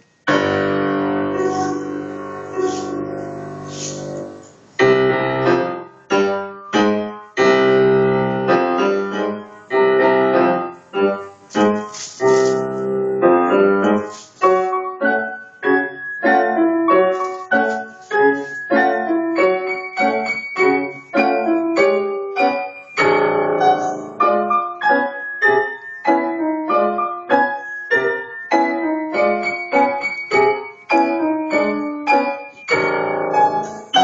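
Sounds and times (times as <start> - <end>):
piano playing march chords: 0.0 - 34.0.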